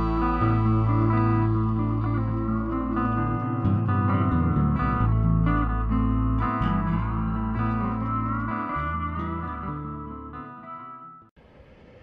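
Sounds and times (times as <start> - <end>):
guitar background music: 0.0 - 11.3.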